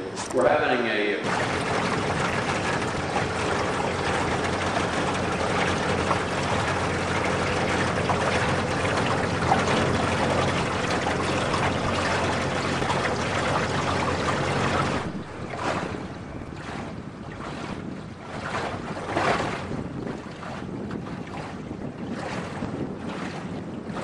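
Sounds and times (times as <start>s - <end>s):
boat motor running: 0.0s - 24.0s
water washing along hull: 0.0s - 24.0s
gusty wind on microphone: 1.2s - 24.0s.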